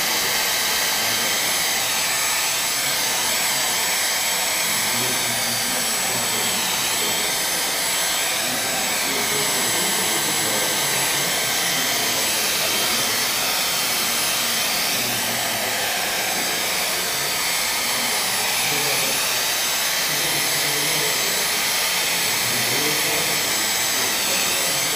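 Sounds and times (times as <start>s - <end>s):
hair dryer blowing: 0.0s - 24.9s.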